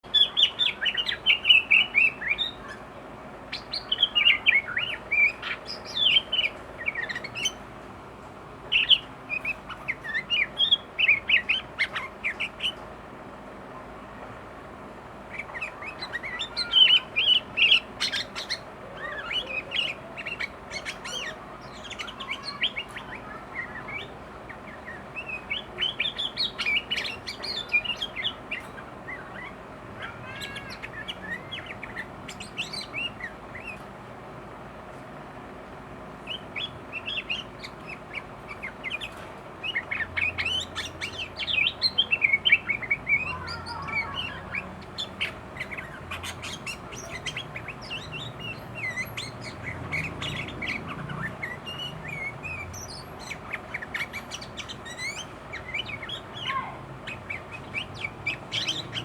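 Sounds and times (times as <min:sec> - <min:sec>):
bird singing rapid chirps: 0:00.0 - 0:13.8, 0:14.8 - 0:34.4, 0:35.7 - 0:59.0.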